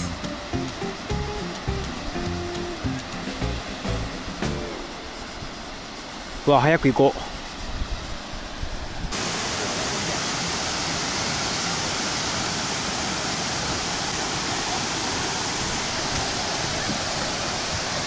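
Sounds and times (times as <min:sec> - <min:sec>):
waterfall roaring: 0:00.0 - 0:06.0, 0:09.1 - 0:18.0.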